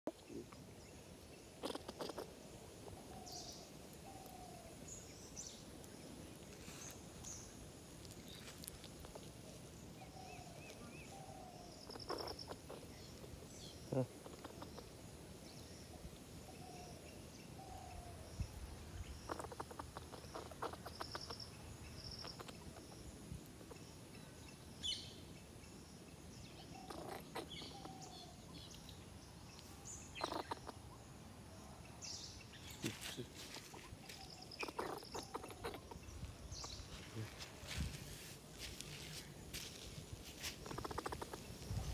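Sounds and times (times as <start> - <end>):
birds calling: 0.1 - 41.9.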